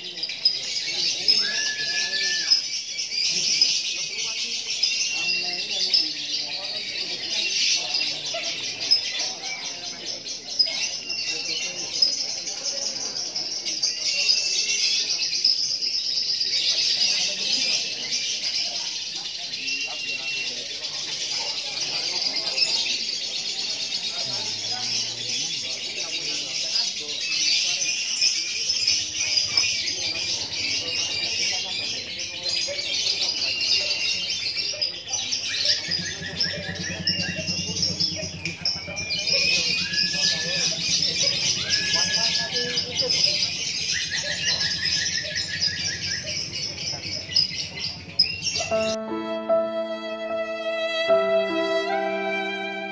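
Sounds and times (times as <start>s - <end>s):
lovebirds chirping and trilling: 0.0s - 49.0s.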